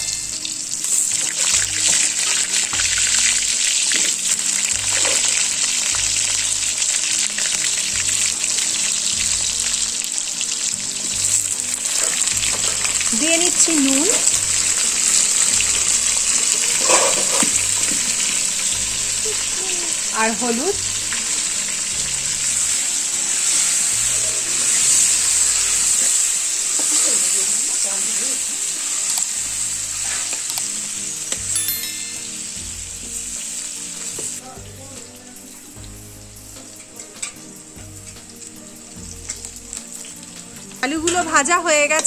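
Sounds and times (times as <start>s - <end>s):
potatoes sizzling in oil: 0.0s - 42.0s.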